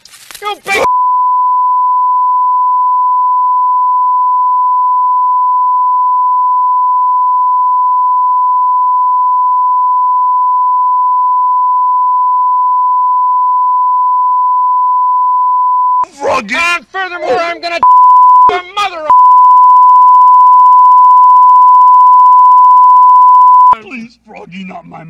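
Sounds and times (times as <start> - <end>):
steady censor bleep tone: 0.9 - 16.1, 17.8 - 23.8.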